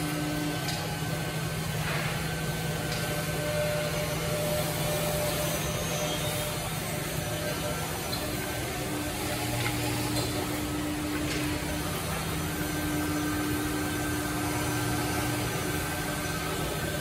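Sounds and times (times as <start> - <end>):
drilling machine motors humming: 0.0 - 17.0.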